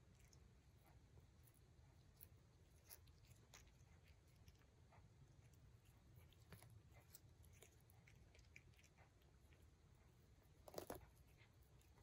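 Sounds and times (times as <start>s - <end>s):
cat chewing grass: 0.0s - 12.0s.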